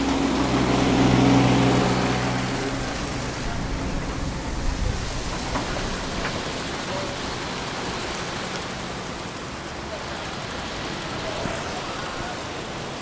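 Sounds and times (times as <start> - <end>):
traffic hiss on wet road: 0.0 - 13.0
truck engine humming: 0.0 - 13.0.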